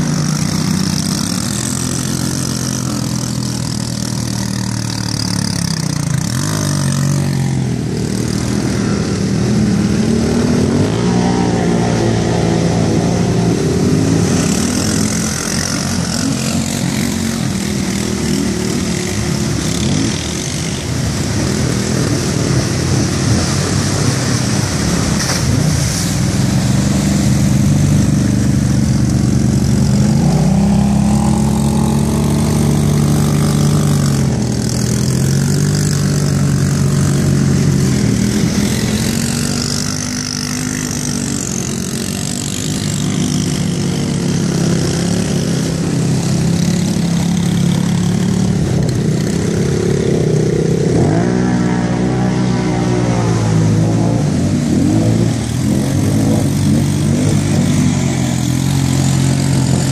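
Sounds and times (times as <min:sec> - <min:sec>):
atv engines revving: 0:00.0 - 0:59.9
water churning and spraying: 0:00.0 - 0:59.9.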